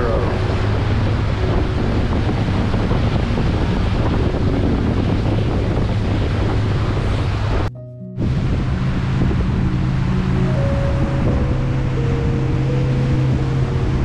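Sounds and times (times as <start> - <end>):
boat motor humming: 0.0 - 14.0
moving water: 0.0 - 14.0
wind on microphone: 0.0 - 14.0.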